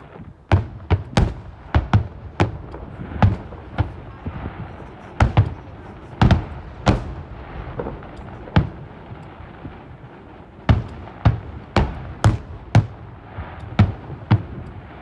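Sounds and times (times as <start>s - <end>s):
fireworks shells booming: 0.0s - 15.0s.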